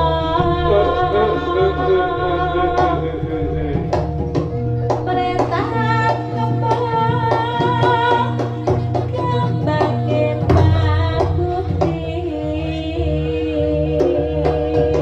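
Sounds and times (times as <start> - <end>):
hand drums beating: 0.0 - 15.0
wavering melody: 0.0 - 15.0.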